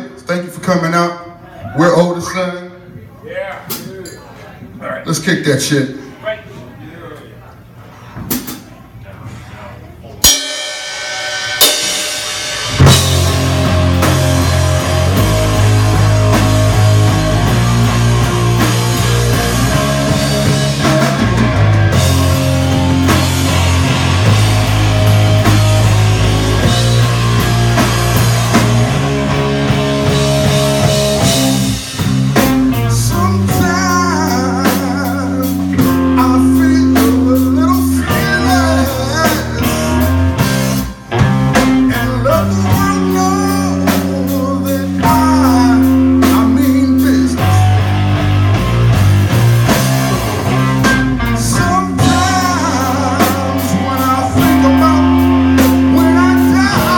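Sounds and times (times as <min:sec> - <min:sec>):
live rock band playing: 0:10.2 - 0:56.9.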